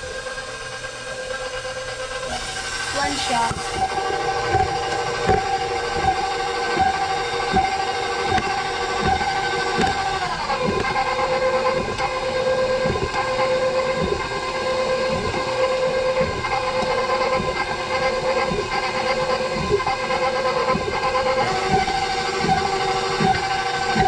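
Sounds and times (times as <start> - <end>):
electric mixer motor whine: 0.0 - 24.0
mixer knocking: 0.0 - 24.0.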